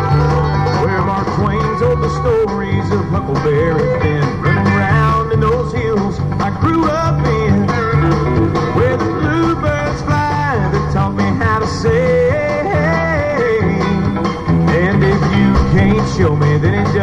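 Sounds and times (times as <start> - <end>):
repeating bass notes: 0.0 - 17.0
song with guitar: 0.0 - 17.0.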